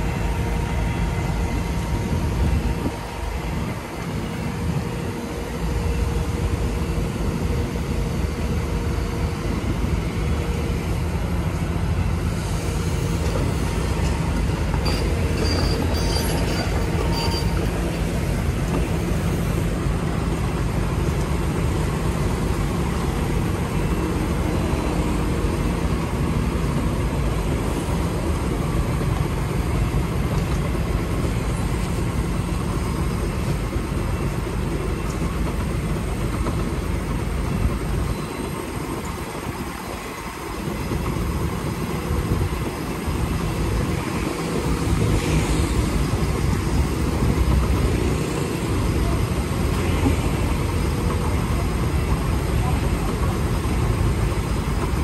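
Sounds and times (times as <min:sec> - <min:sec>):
excavator diesel engine running: 0:00.0 - 0:55.0
hydraulics whining: 0:00.0 - 0:55.0.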